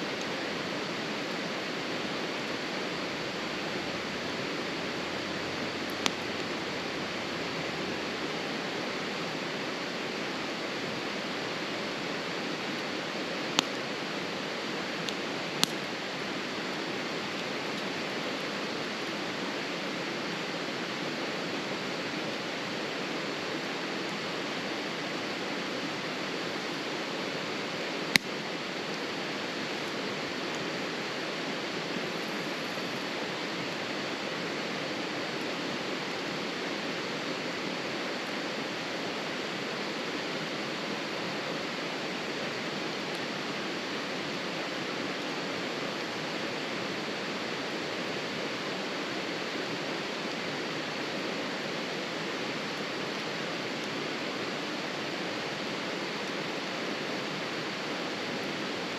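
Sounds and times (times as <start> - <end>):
steady rushing hiss: 0.0 - 58.9.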